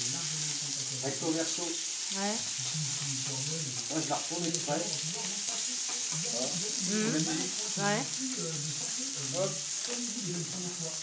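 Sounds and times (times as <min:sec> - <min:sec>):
food sizzling on a griddle: 0:00.0 - 0:11.0
indistinct voices: 0:00.0 - 0:11.0.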